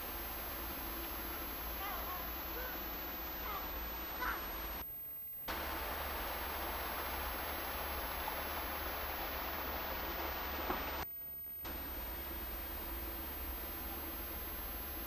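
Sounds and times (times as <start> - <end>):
tape hiss: 0.0 - 15.0.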